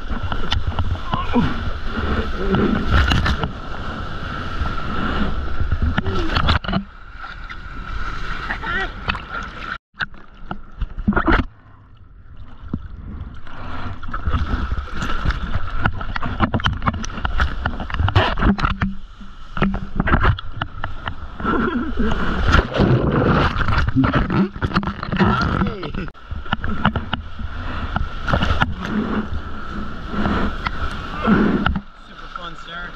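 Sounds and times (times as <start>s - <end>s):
water splashing and sloshing: 0.0s - 32.9s.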